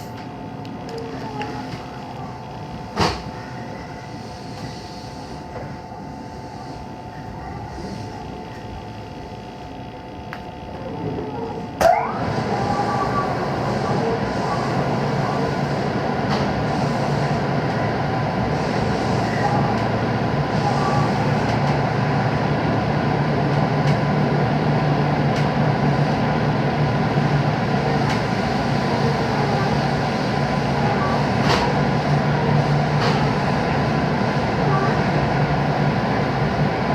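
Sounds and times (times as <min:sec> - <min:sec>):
train running noise: 0:00.0 - 0:36.9.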